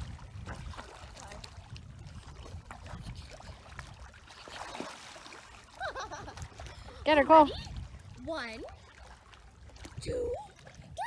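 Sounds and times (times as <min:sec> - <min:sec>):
light water splashing: 0:00.0 - 0:11.0.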